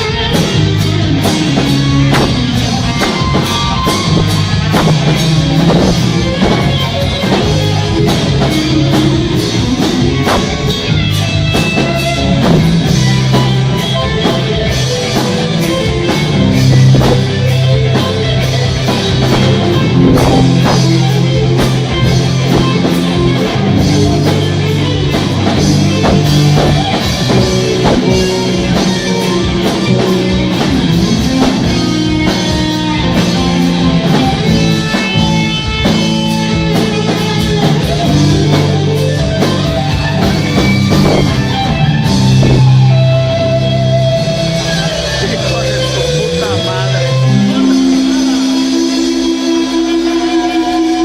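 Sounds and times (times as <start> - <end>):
drum kit playing: 0.0 - 51.0
electric guitar: 0.0 - 51.0.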